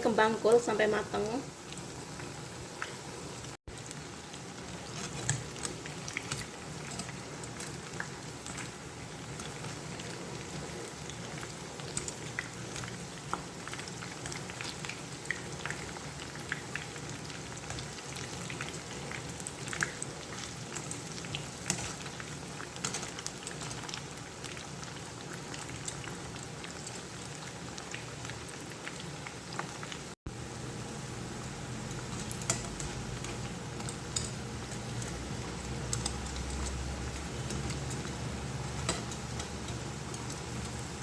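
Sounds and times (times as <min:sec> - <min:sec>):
batter frying in hot oil: 0:00.0 - 0:41.0.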